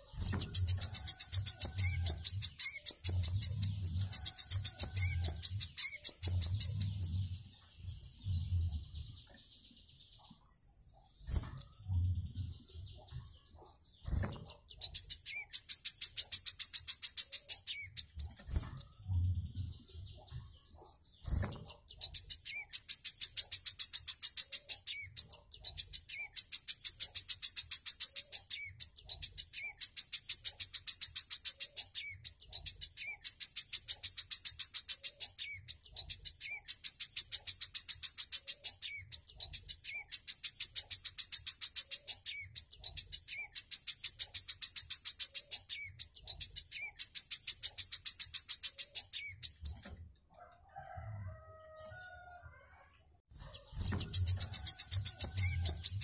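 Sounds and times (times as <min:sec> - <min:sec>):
bird chirps: 0:00.0 - 0:50.2, 0:51.7 - 0:56.0.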